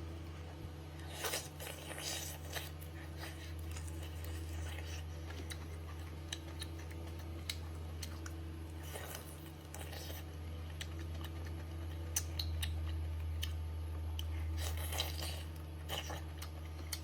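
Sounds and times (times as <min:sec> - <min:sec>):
steady low hum: 0:00.0 - 0:17.0
chewing and tearing food: 0:00.1 - 0:17.0.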